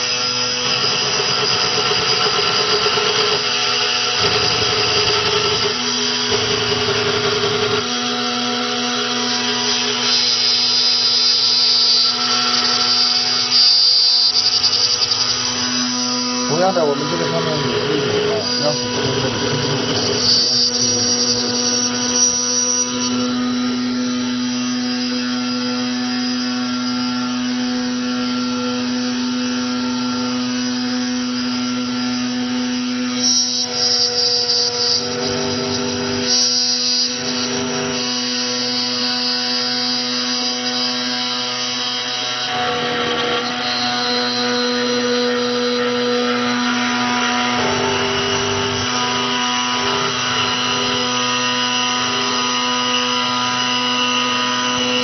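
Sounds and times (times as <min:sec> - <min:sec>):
key cutting machine whining: 0:00.0 - 0:55.0.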